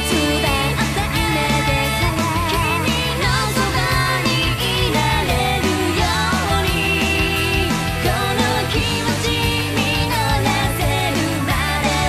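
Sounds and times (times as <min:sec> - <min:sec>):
pop song playing: 0:00.0 - 0:12.0.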